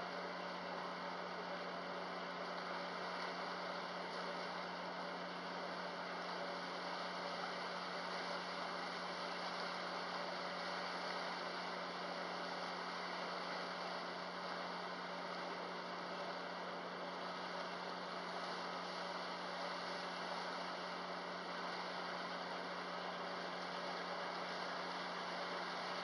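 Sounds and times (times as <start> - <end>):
rushing wake water: 0.0 - 26.0.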